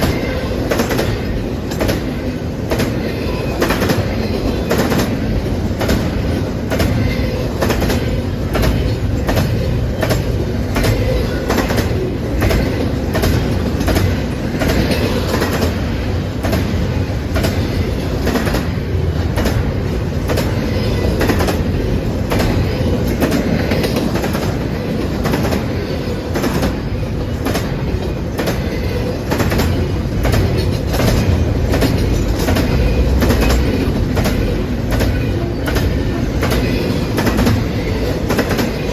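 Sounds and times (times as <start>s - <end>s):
freight train rumbling past: 0.0s - 38.9s
train wheels clacking over rail joints: 0.0s - 38.9s.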